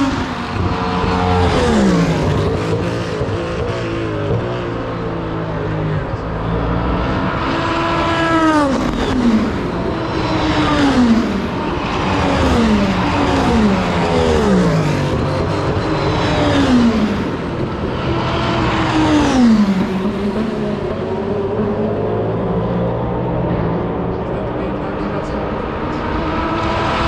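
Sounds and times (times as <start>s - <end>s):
race cars passing at speed: 0.0s - 27.0s.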